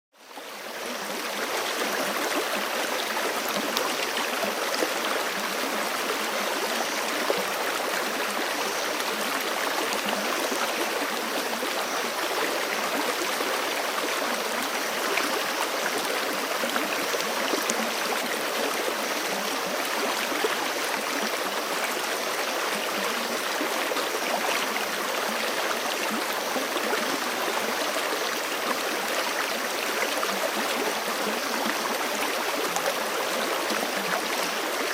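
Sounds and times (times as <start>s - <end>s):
creek flowing over rocks: 0.2s - 34.9s.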